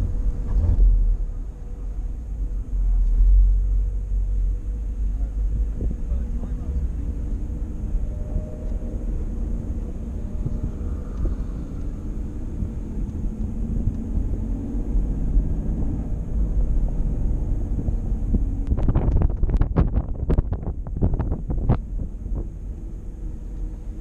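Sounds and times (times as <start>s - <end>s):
car engine and road rumble: 0.0s - 24.0s
wind buffeting microphone: 0.0s - 24.0s.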